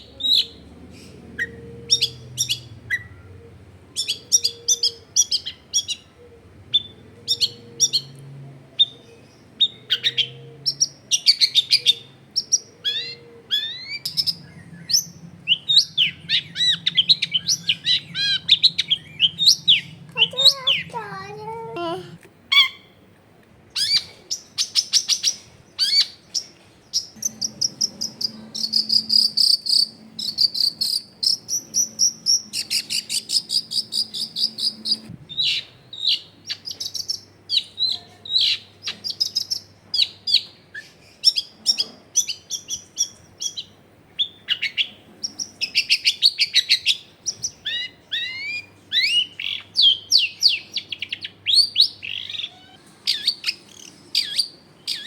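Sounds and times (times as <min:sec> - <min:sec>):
bird singing trills and chirps: 0:00.0 - 0:23.0, 0:23.8 - 0:55.0.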